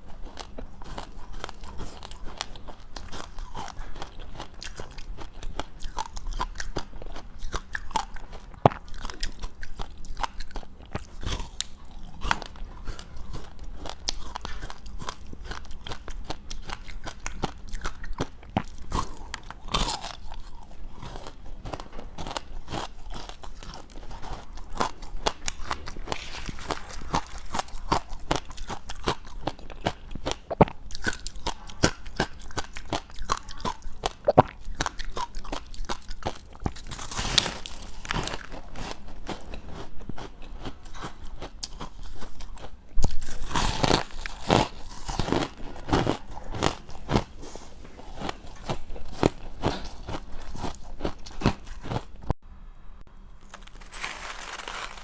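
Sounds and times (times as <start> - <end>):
crunching ice while chewing: 0.0 - 52.4, 53.4 - 55.0.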